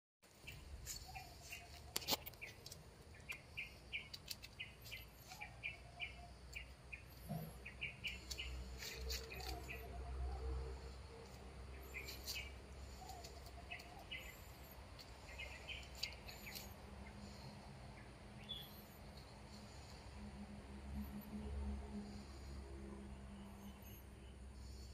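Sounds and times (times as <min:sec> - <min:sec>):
small birds chirping: 0:00.3 - 0:20.4.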